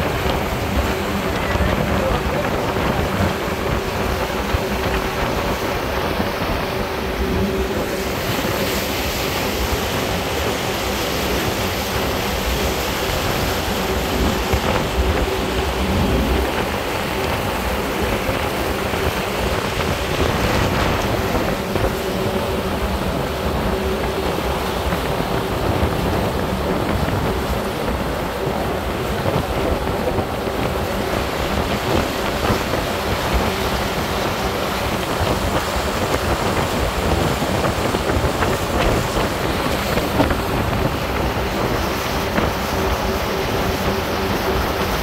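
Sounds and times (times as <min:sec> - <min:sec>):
boat engines humming: 0:00.0 - 0:45.0
churning water rushing: 0:00.0 - 0:45.0
wind buffeting microphone: 0:00.0 - 0:45.0.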